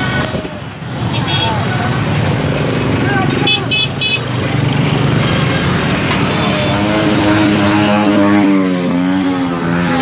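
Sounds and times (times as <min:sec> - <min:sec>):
motorbike engines in traffic: 0:00.0 - 0:10.0.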